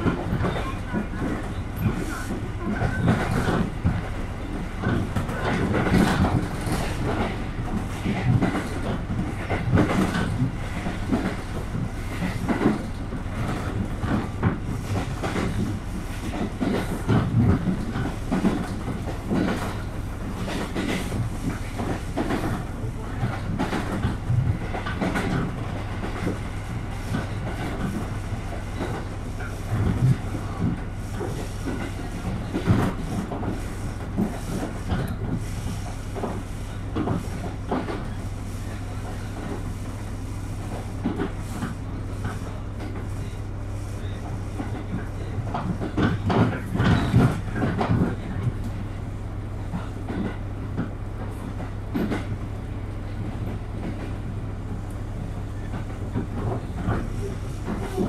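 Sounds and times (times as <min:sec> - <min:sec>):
low drone of running train: 0:00.0 - 0:58.0.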